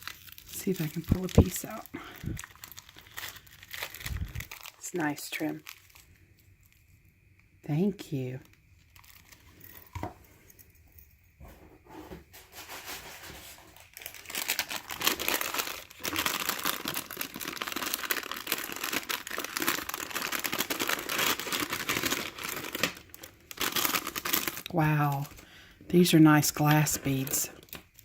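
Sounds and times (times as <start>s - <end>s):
packaging rustling and crinkling: 0.0s - 7.0s, 8.5s - 10.4s, 11.4s - 25.6s, 26.4s - 28.0s.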